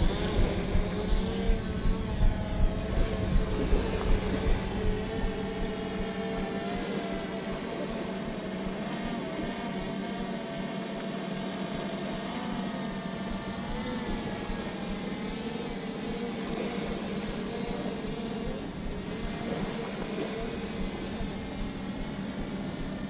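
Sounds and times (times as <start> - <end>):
drone propellers whining: 0.0 - 23.0.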